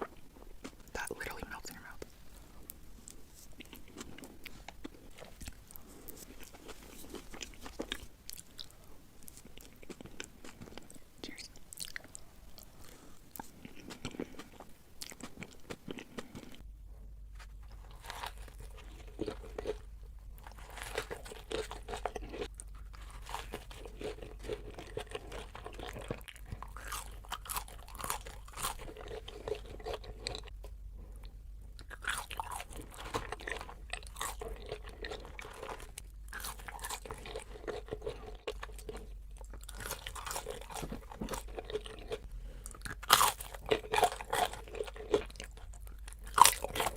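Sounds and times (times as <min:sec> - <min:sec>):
crunchy food chewing: 0:00.0 - 0:16.7, 0:17.4 - 0:46.9.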